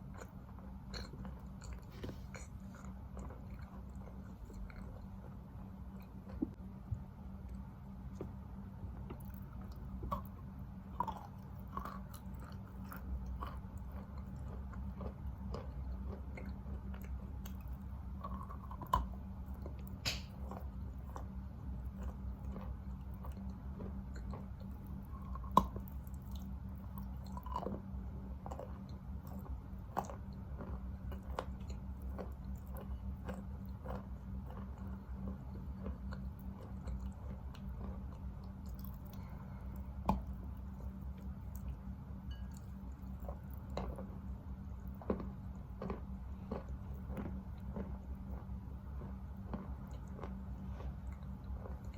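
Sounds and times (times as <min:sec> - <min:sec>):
chalk being chewed: 0:00.0 - 0:06.6, 0:09.0 - 0:51.9.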